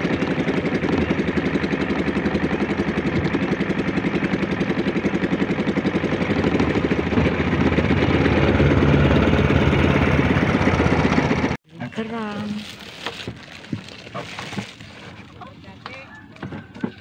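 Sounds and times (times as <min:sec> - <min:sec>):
boat engine chugging: 0:00.0 - 0:17.0.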